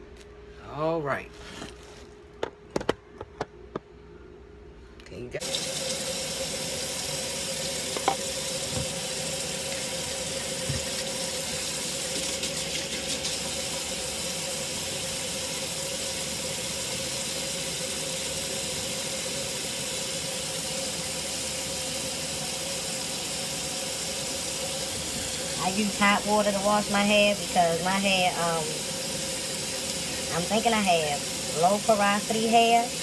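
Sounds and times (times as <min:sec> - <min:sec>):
faucet running into sink: 0:05.4 - 0:33.0.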